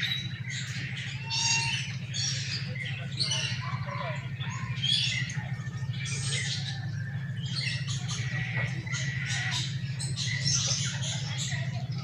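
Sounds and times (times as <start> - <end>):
apes squawking calls: 0.0 - 12.0
steady low hum: 0.0 - 12.0.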